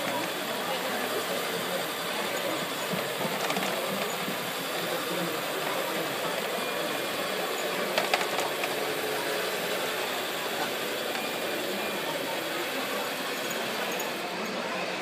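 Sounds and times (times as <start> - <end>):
model truck drive running: 0.0 - 15.0.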